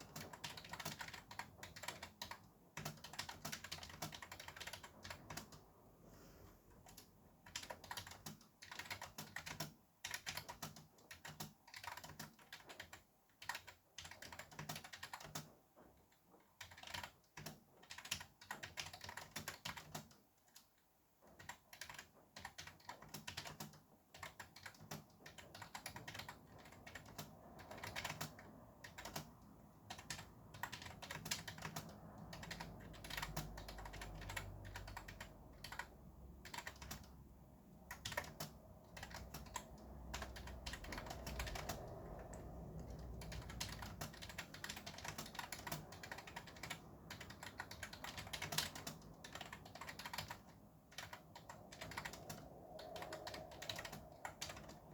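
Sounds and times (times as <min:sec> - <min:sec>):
fast typing on keyboard: 0:00.0 - 0:05.8, 0:06.8 - 0:54.9.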